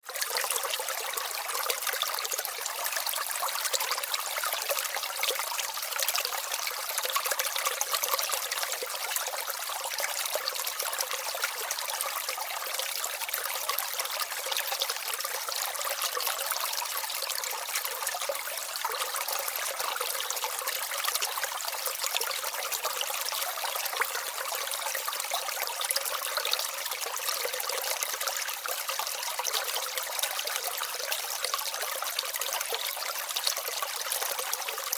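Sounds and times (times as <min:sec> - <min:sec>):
brook babbling over stones: 0:00.0 - 0:34.9.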